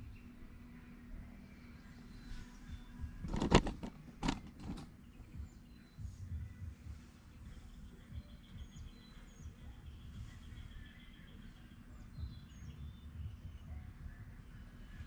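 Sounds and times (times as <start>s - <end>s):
birds chirping: 0.0s - 15.0s
steady low rumble: 0.0s - 15.0s.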